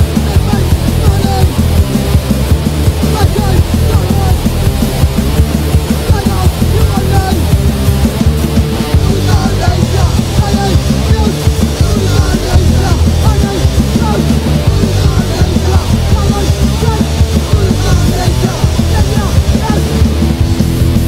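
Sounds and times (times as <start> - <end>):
punk rock with guitars and drums: 0.0 - 21.0.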